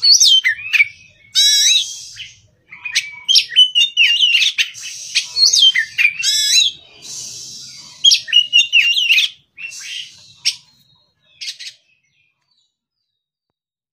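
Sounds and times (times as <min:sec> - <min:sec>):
bird singing whistles: 0:00.0 - 0:11.8.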